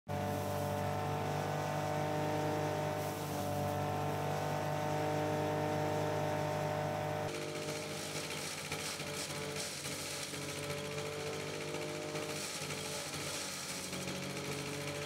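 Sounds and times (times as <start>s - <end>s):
chaff cutter running: 0.1s - 15.0s
diesel engine: 0.1s - 15.0s.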